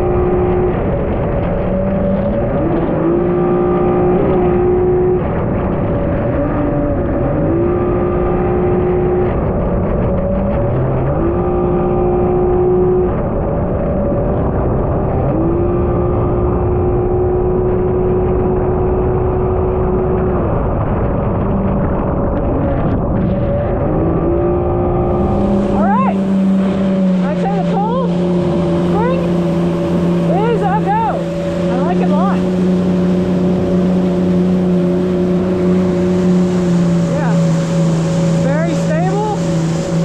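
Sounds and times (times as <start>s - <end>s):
jet ski engine revving: 0.0s - 40.0s.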